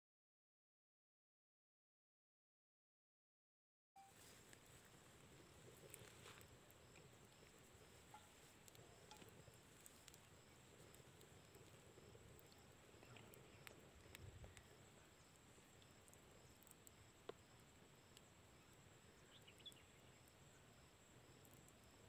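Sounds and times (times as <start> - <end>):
insects chirping: 4.0 - 22.0
small ticks: 4.2 - 22.0.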